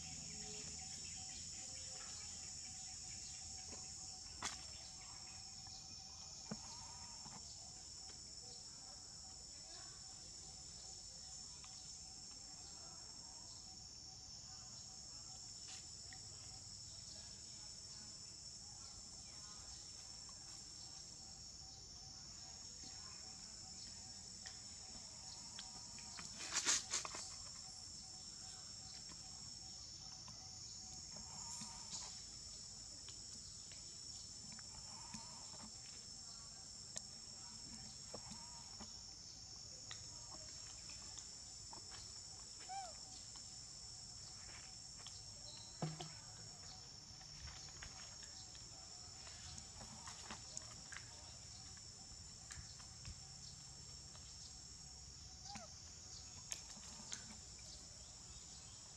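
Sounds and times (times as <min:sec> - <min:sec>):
insect chorus drone: 0:00.0 - 0:58.9.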